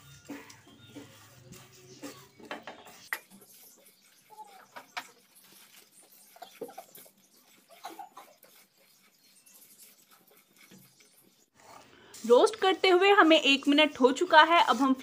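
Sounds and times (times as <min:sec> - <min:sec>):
spatula scraping spices in a pan: 0:00.0 - 0:15.0.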